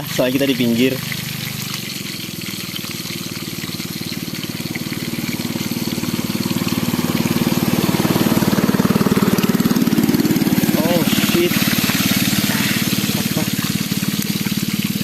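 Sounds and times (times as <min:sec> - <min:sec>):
small boat engine running: 0:00.0 - 0:15.0
water hissing: 0:00.0 - 0:15.0.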